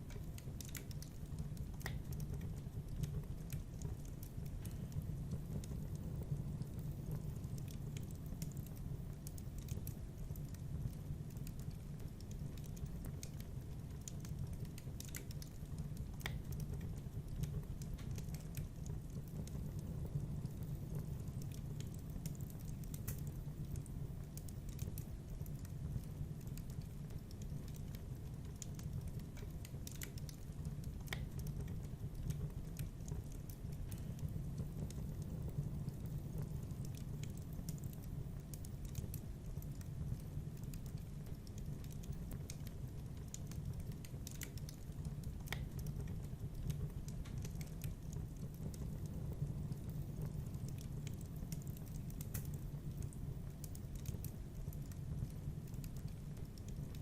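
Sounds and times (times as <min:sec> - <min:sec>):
fire crackling and popping: 0:00.0 - 0:57.0
wood fire rumble: 0:00.0 - 0:57.0.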